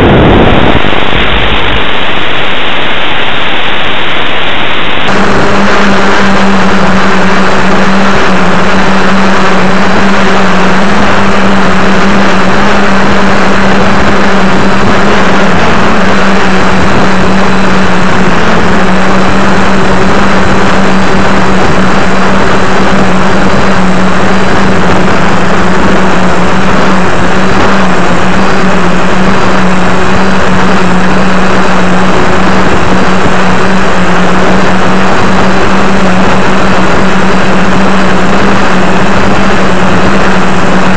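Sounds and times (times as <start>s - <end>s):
quadcopter motors and propellers: 0.0s - 40.9s.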